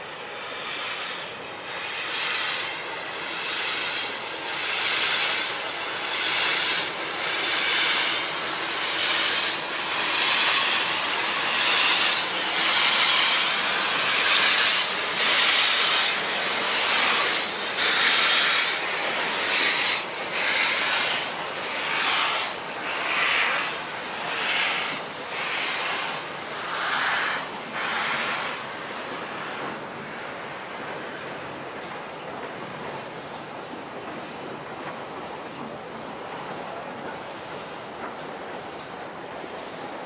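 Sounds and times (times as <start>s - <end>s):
steam locomotive chuffing: 0.0s - 40.0s
wagons rumbling on rails: 0.0s - 40.0s.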